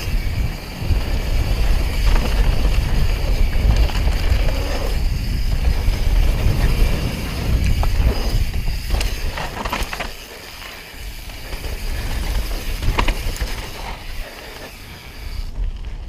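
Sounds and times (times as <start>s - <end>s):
bike clicks and rattles: 0.0s - 16.0s
tyres on dirt and stones: 0.0s - 16.0s
wind rumbling on microphone: 0.0s - 16.0s.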